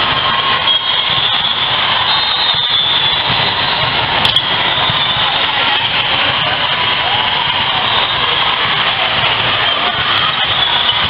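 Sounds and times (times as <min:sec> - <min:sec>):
crowd din: 0:00.0 - 0:11.0.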